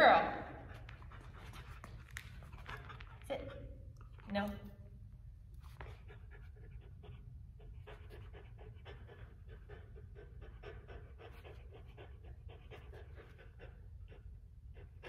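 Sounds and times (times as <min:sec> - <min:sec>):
dog panting: 0:00.6 - 0:04.2, 0:05.6 - 0:15.0.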